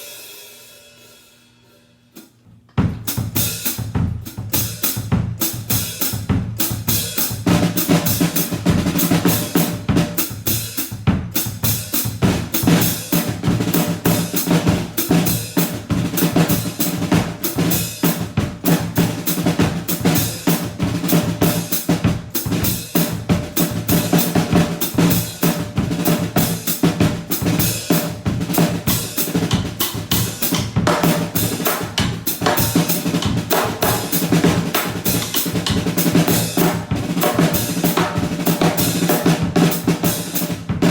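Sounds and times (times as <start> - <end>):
acoustic drum kit groove: 0.0 - 40.9.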